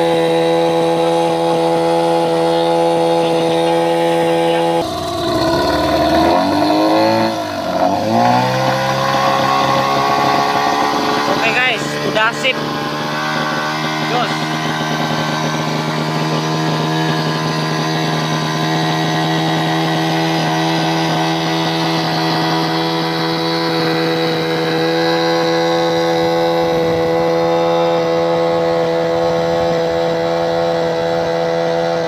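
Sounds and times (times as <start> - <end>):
outboard motor running at high speed: 0.0 - 32.0.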